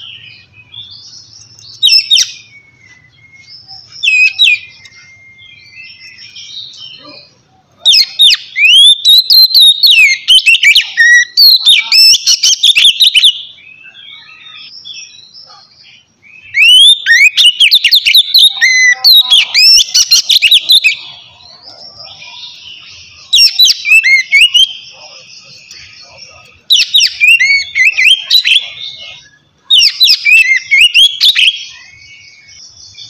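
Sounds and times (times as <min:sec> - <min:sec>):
bird singing whistled notes: 0:00.0 - 0:33.0
faint bird chirps: 0:00.0 - 0:33.0.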